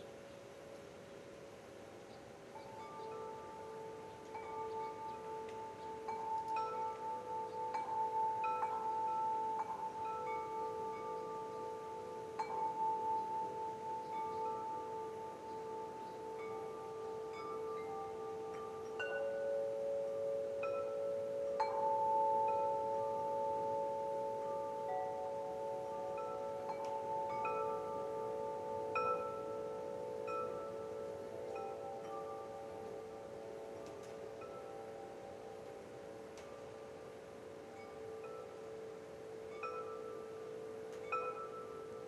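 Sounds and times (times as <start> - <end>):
wind chimes ringing: 0.0 - 42.0.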